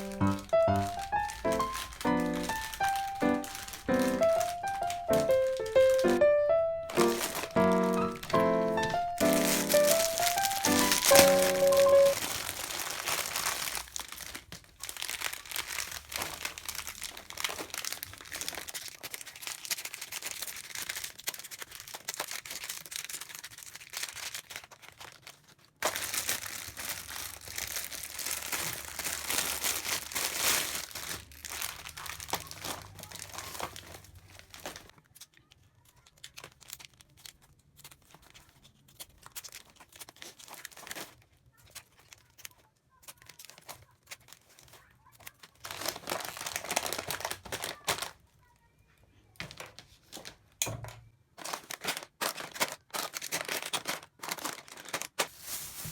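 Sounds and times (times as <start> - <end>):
packaging tearing: 0.0 - 48.2, 51.4 - 55.9
packaging crinkling and rustling: 0.0 - 48.7, 49.3 - 55.9.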